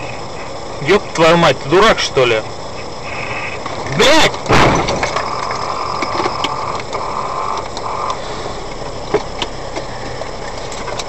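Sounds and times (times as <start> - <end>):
steady high tone: 0.0 - 9.0
car road and engine noise: 0.0 - 11.0.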